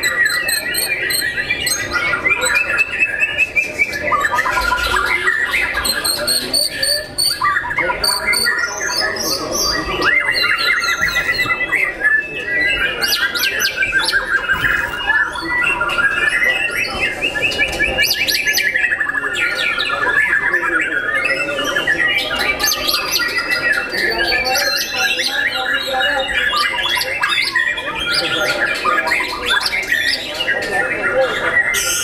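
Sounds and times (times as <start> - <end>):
birds singing together: 0.0 - 32.0.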